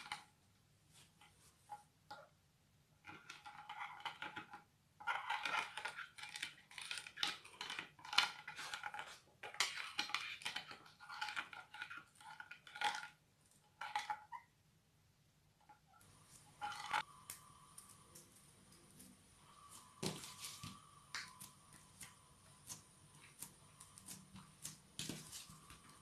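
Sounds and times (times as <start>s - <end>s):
metal stick stirring slime: 3.0s - 14.5s, 15.6s - 26.0s.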